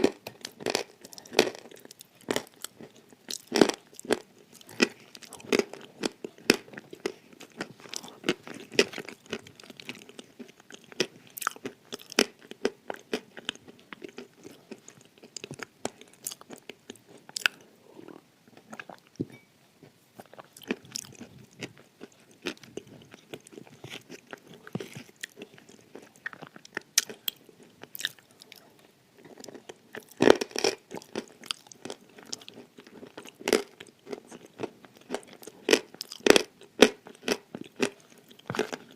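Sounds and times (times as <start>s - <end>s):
crisp chewing crunches: 0.0s - 17.7s, 20.2s - 38.9s.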